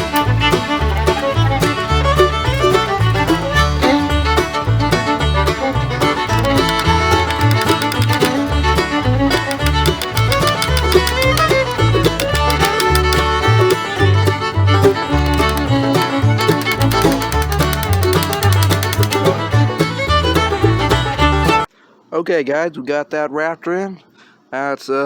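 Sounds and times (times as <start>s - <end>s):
upbeat bluegrass tune: 0.0s - 21.6s.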